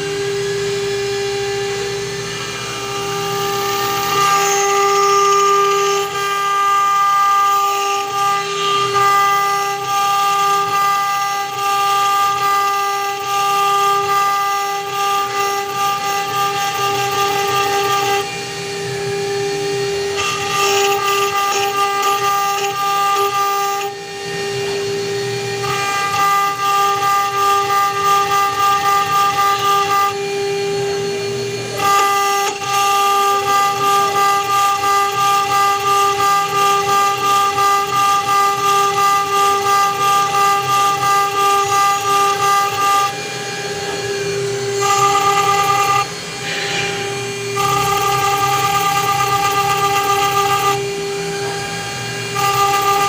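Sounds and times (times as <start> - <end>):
engraving bit cutting metal: 0.0 - 53.0
router spindle whine: 0.0 - 53.0.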